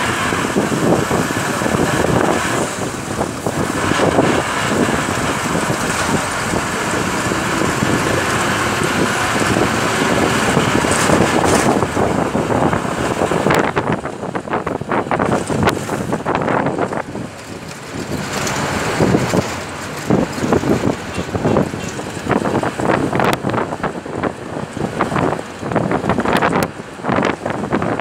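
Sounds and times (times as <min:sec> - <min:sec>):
vehicle road noise: 0:00.0 - 0:28.0
wind buffeting microphone: 0:00.0 - 0:28.0.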